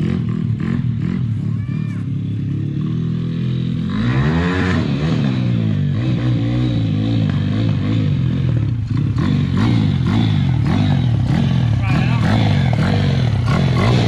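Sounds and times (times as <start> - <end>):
small motorbike engine revving: 0.0 - 14.0.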